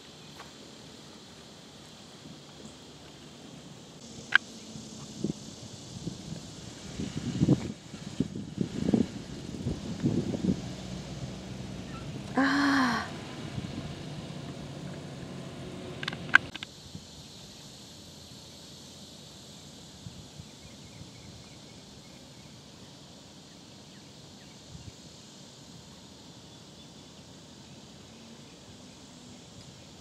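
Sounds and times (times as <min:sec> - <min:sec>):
faint outdoor background: 0:00.0 - 0:30.0.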